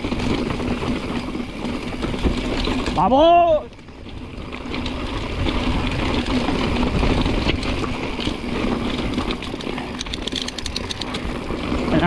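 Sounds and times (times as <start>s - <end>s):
bike rattling over rock: 0.0s - 12.0s
wind rumble on microphone: 0.0s - 12.0s.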